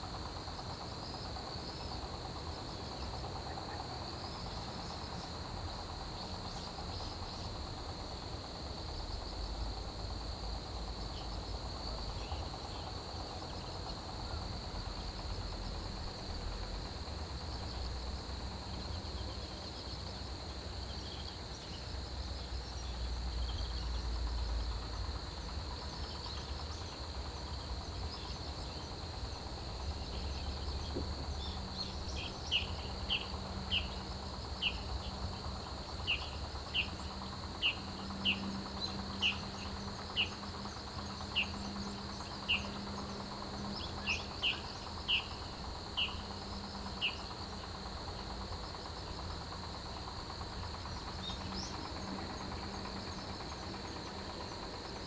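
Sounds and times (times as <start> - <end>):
insect sharp chirps: 0.0 - 55.0
insects trilling chorus: 0.0 - 55.0.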